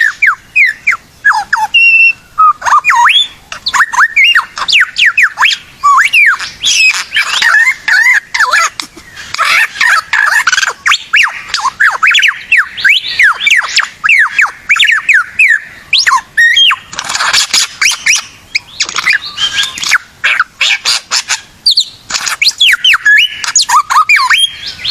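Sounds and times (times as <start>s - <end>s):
bird singing loudly: 0.0s - 24.9s.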